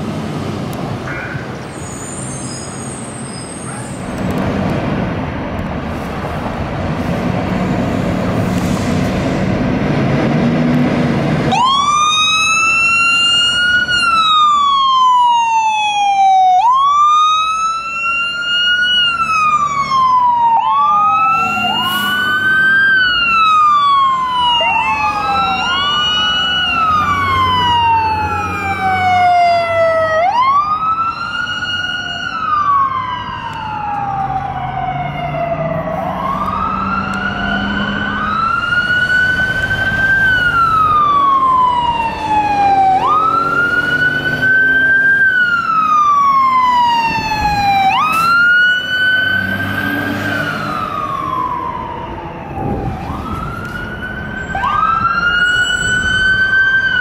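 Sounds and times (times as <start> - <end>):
fire truck sirens wailing: 0.0 - 57.0.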